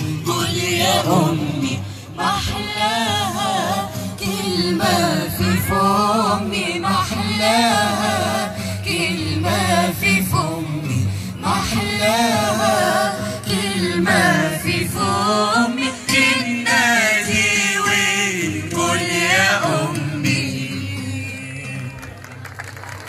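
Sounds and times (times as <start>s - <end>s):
mixed choir singing a cappella: 0.0s - 21.6s.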